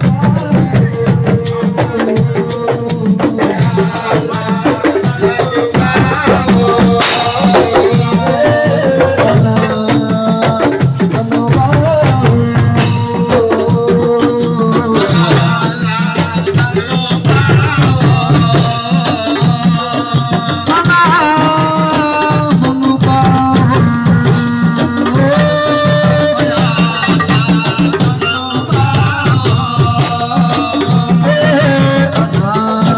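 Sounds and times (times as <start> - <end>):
fast hand drum percussion: 0.0 - 32.9.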